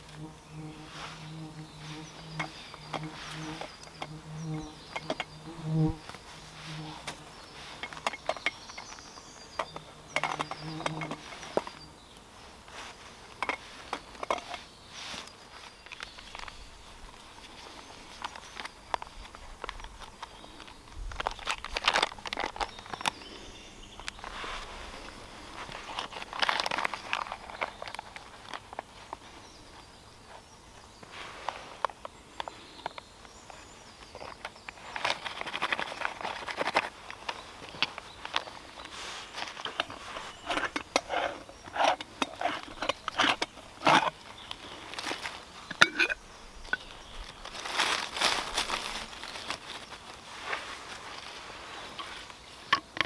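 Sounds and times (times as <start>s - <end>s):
dry leaves rustling and crackling: 0.0s - 52.7s.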